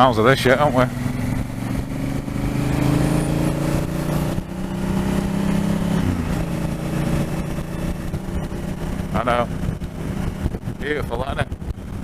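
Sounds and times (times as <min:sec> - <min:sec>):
motorcycle engine running: 0:00.0 - 0:12.0
wind rush: 0:00.8 - 0:12.0.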